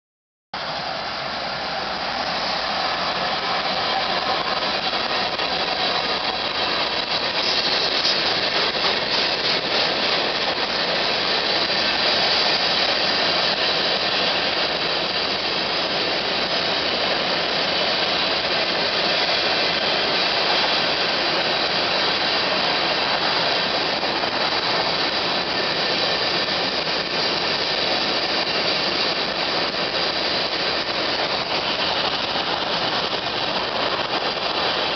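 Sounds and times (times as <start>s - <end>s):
diesel locomotive passing: 0.6s - 34.9s
train wheels on rails: 0.6s - 34.9s.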